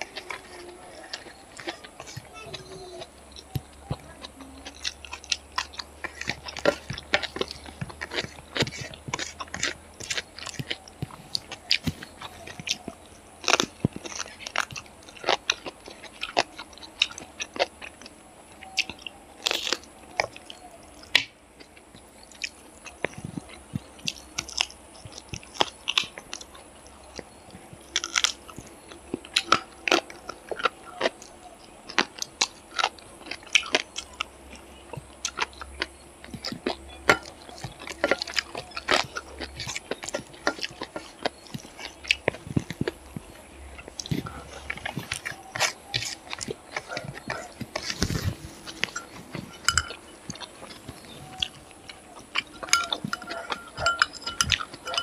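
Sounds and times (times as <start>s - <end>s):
mouth clicks: 0.0s - 55.0s
person chewing and biting food: 0.0s - 55.0s.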